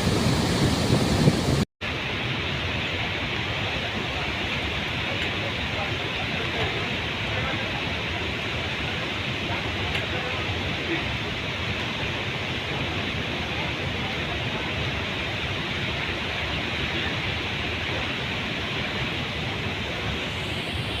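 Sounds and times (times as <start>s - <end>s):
rush of water through spillway: 0.0s - 21.0s.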